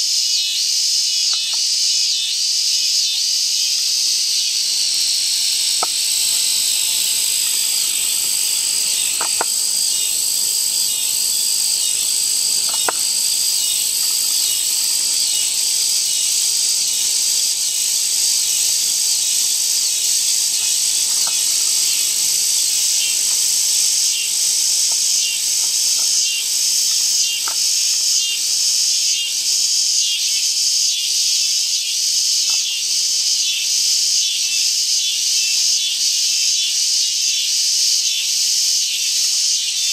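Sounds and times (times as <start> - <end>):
insects shrilling: 0.0 - 36.0.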